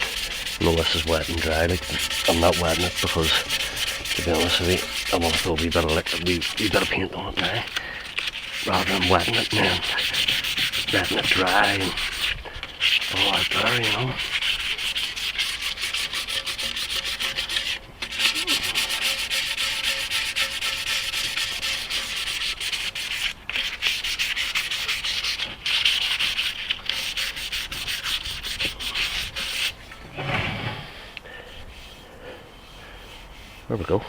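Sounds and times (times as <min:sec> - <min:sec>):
sandpaper rubbing on metal: 0:00.0 - 0:29.9, 0:31.4 - 0:34.0.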